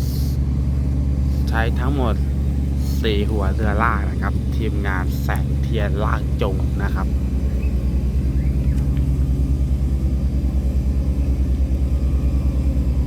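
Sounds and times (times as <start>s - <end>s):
diesel engine throbbing: 0.0s - 13.0s.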